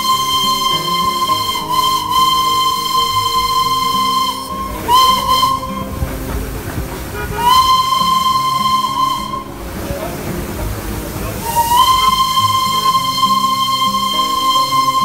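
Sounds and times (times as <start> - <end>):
background music: 0.0 - 15.0
steam locomotive whistle: 0.0 - 15.0.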